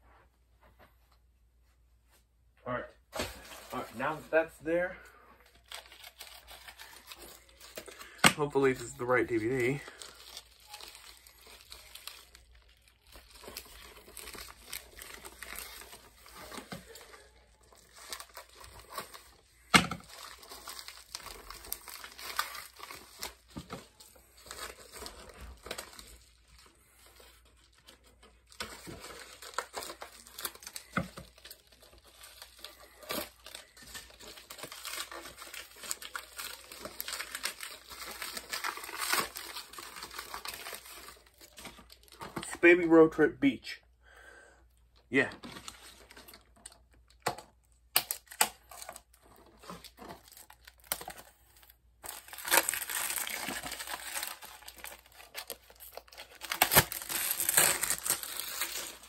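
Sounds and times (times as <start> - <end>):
plastic wrapping crinkling and tearing: 3.1 - 43.8, 44.9 - 59.0.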